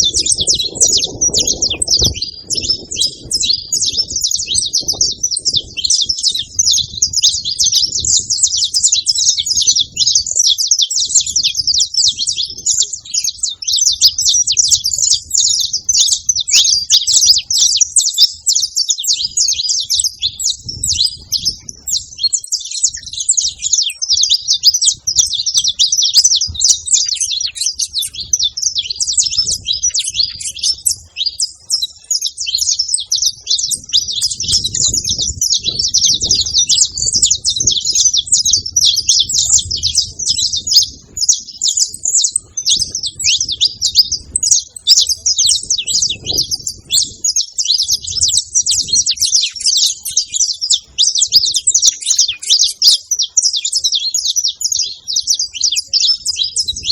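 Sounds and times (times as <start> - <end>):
finches singing: 0.0 - 56.9.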